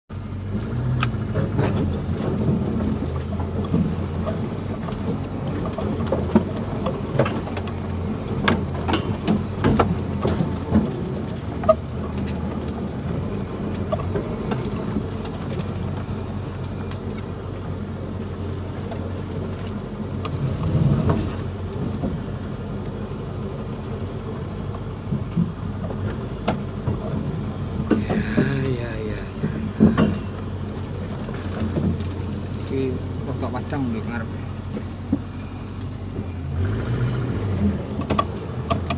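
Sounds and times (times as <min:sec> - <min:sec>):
car engine running at low speed: 0:00.1 - 0:38.9.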